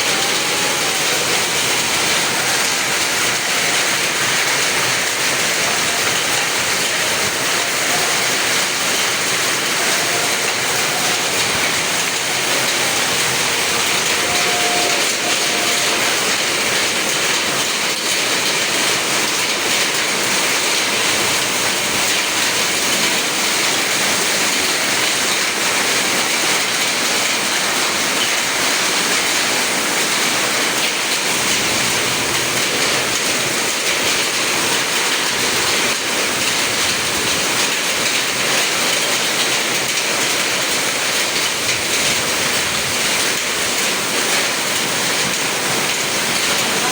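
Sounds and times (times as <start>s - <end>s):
heavy rain and wind roar: 0.0s - 46.9s.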